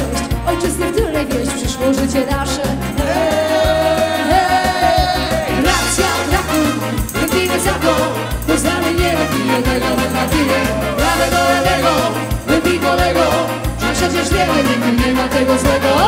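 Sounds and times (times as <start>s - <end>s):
live dance band playing: 0.2s - 15.2s.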